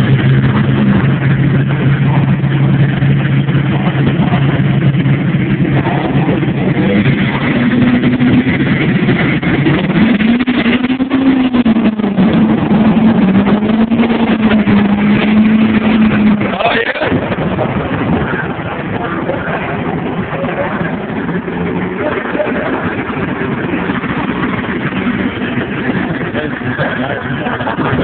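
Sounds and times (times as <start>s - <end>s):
diesel truck engines idling: 0.0s - 28.0s
trucks accelerating away: 0.0s - 28.0s.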